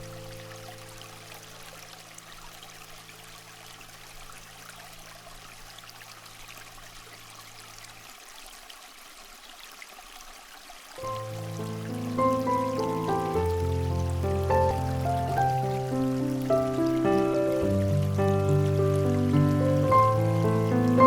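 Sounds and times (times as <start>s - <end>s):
trickle of running water: 0.0s - 21.0s.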